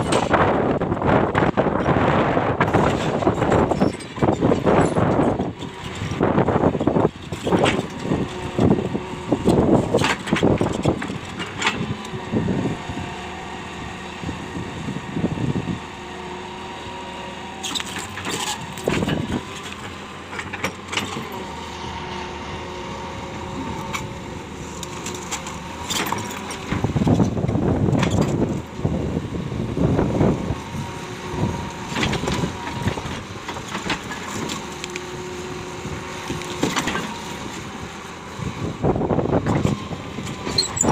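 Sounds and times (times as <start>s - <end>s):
excavator machine whine: 0.0s - 40.9s.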